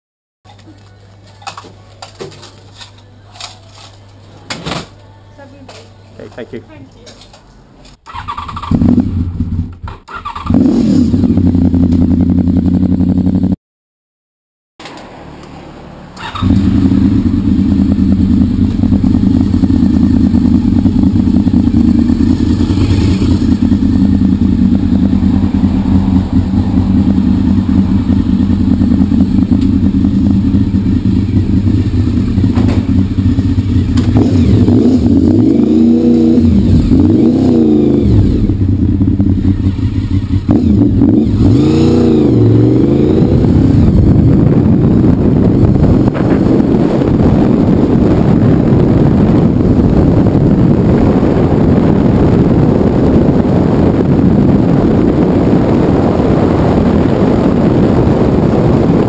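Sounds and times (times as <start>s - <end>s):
motorcycle engine idling and revving: 8.0s - 13.6s, 14.8s - 59.0s.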